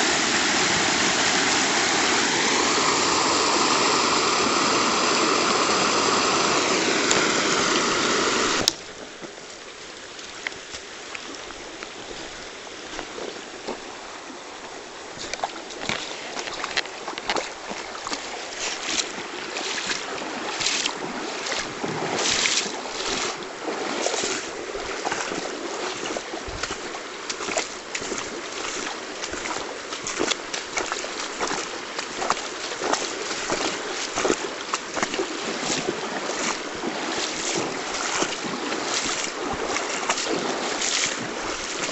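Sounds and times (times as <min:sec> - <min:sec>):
quiet stream flow: 0:00.0 - 0:41.9
water rushing over weir: 0:00.0 - 0:41.9.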